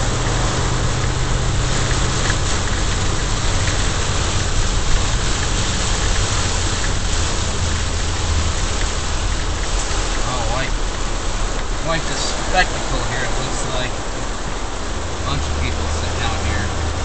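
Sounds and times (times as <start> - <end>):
car engine humming low: 0.0 - 17.0
heavy rain on a car: 0.0 - 17.0.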